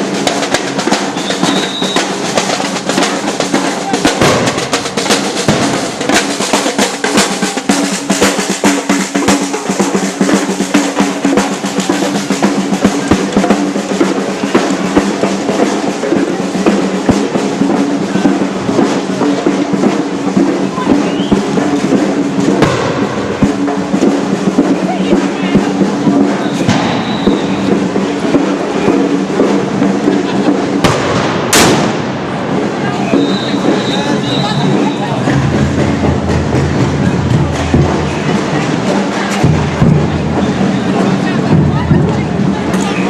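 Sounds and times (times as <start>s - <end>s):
bass drum beats: 0.0s - 43.0s
snare drum rolls: 0.0s - 43.0s.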